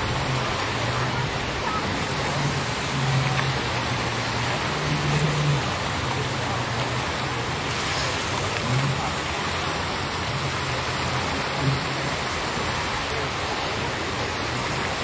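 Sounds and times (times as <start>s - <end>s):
rushing seaside ambience: 0.0s - 15.0s.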